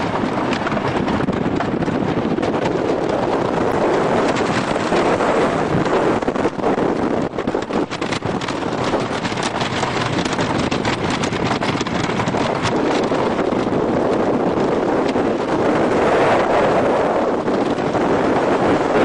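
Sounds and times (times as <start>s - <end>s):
roller coaster clatter: 0.0s - 19.0s
wind rushing over microphone: 0.0s - 19.0s.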